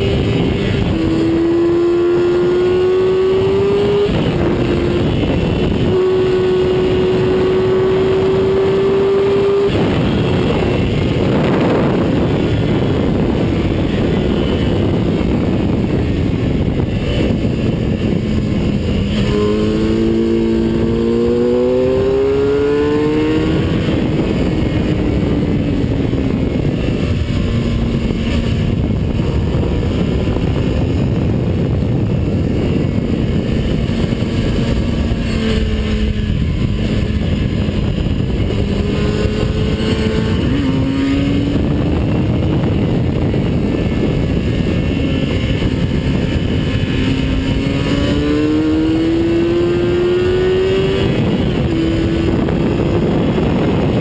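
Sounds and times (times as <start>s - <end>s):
race car engine at high revs: 0.0s - 54.0s
wind rush on camera: 0.0s - 54.0s.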